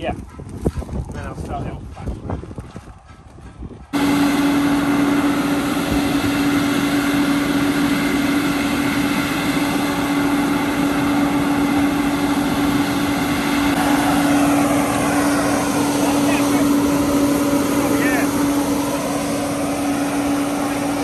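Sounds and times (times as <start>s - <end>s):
wet-blasting machine hum and hiss: 4.0s - 21.0s.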